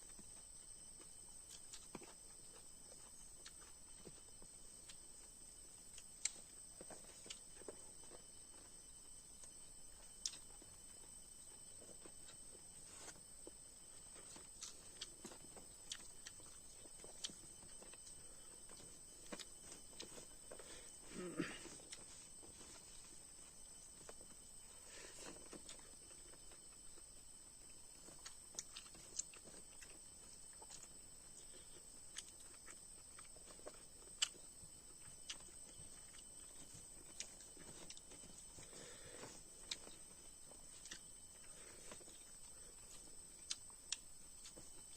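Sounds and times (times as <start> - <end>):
quiet hiss: 0.0 - 44.9.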